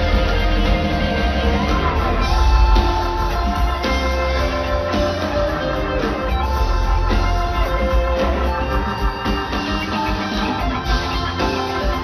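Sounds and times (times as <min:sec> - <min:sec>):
live rock band playing: 0:00.0 - 0:12.0
melodic guitar lines: 0:00.0 - 0:12.0.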